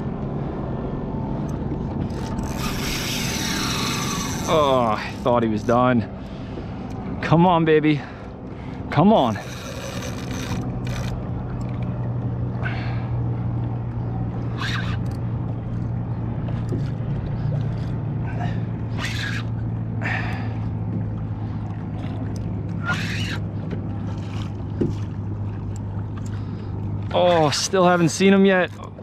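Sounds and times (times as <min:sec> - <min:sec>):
low motor hum: 0:00.0 - 0:29.0
water splashing against hull: 0:00.0 - 0:29.0.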